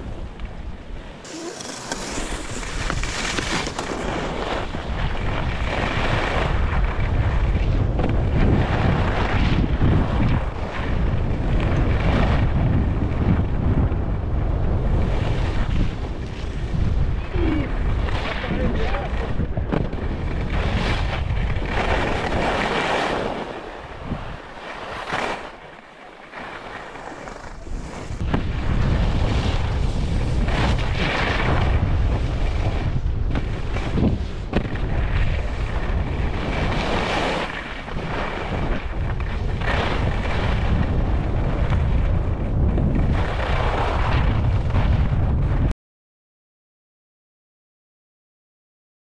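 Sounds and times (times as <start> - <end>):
wind rushing over microphone: 0.0 - 25.8, 26.5 - 45.7
skis scraping on snow: 1.2 - 13.3, 17.9 - 45.2.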